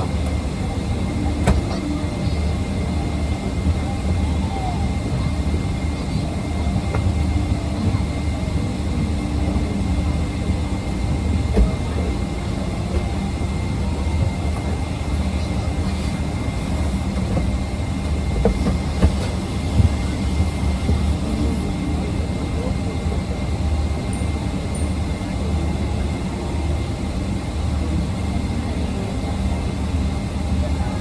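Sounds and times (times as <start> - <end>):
airliner cabin rumble: 0.0 - 31.0
thin steady whine: 0.0 - 31.0.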